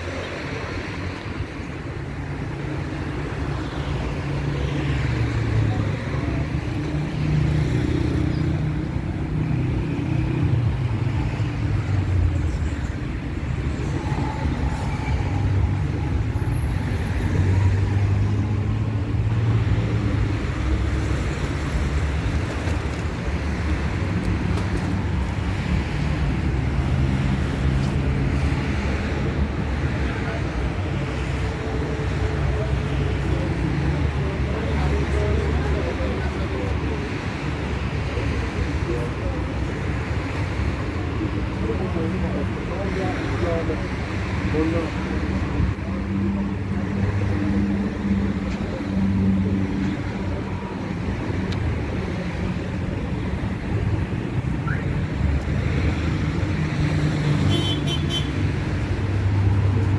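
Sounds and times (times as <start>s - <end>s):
cars passing: 0.0s - 59.9s
low rumble of road noise: 0.0s - 59.9s.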